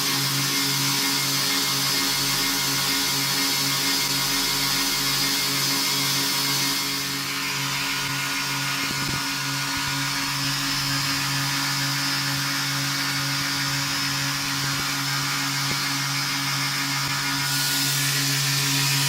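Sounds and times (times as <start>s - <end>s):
electric motor humming: 0.0s - 19.0s
sanding belt hissing: 0.0s - 19.0s.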